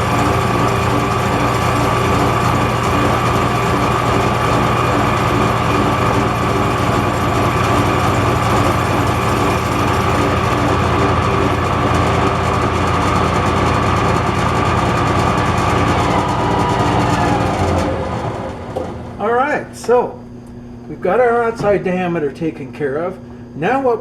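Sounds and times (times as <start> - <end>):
metal lathe whining: 0.0 - 19.8.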